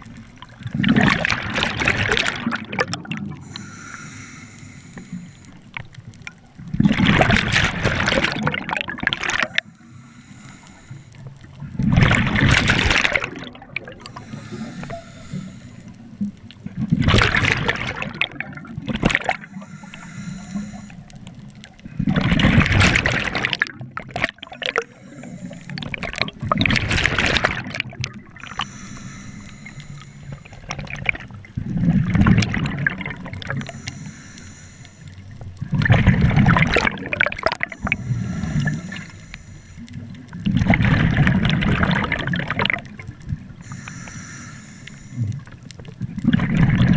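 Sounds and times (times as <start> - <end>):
exhaled bubbles underwater: 0.0 - 3.7, 5.4 - 10.2, 11.3 - 34.5, 35.1 - 44.0, 44.9 - 46.9
water noise: 0.0 - 46.9.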